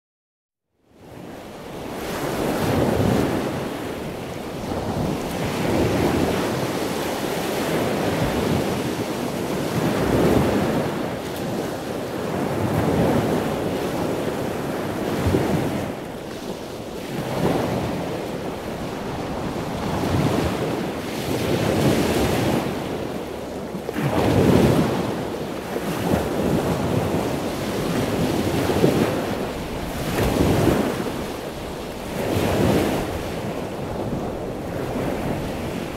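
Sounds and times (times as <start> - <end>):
wind buffeting microphone: 1.0 - 35.9
surf washing onto beach: 1.1 - 35.9.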